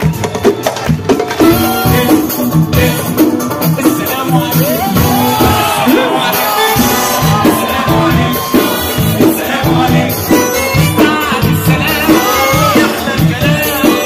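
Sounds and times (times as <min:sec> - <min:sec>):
live band playing latin music: 0:00.0 - 0:14.0
man singing: 0:01.3 - 0:14.0.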